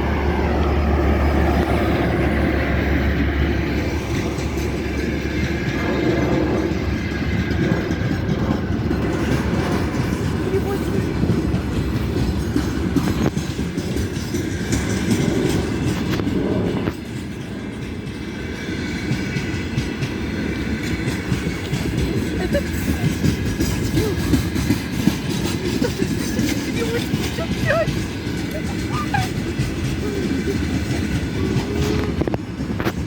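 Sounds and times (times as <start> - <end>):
freight train rumbling past: 0.0 - 33.0
wheels clattering over rail joints: 0.0 - 33.0.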